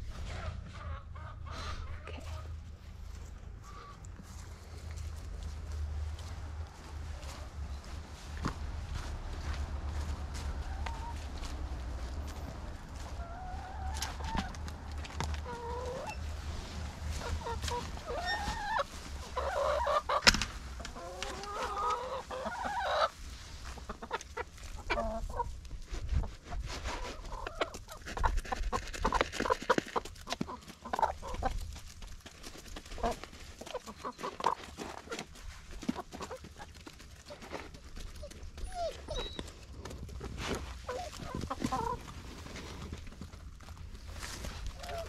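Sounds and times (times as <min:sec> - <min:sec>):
hens clucking and calling: 0:00.0 - 0:45.0
hens pecking at food tray: 0:00.2 - 0:45.0.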